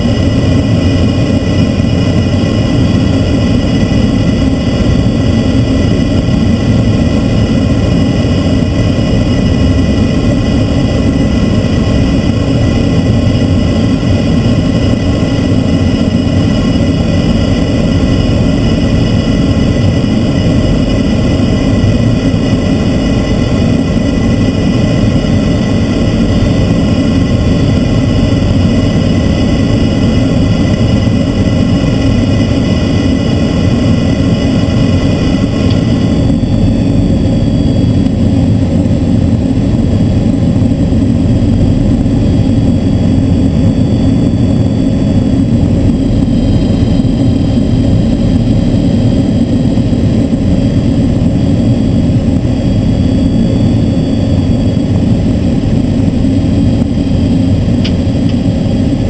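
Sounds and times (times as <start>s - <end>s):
high engine whine: 0.0s - 59.0s
turboprop engines rumbling: 0.0s - 59.0s.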